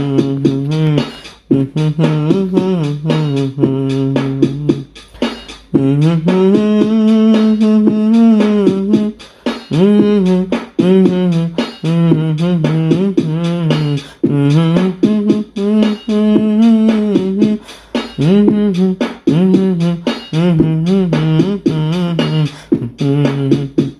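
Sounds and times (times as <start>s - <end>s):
melody over percussive beat: 0.0s - 23.9s.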